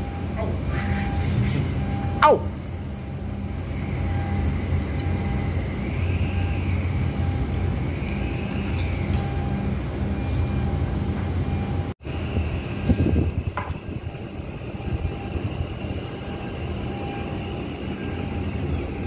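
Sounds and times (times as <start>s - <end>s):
heavy machinery drone: 0.0s - 19.0s
high whine rising and falling: 0.0s - 19.0s.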